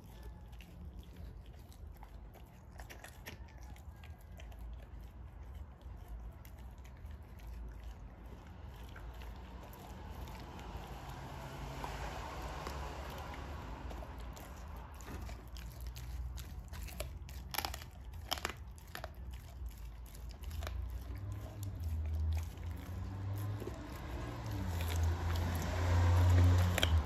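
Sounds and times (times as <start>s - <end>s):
dog chewing meat: 0.0s - 27.0s.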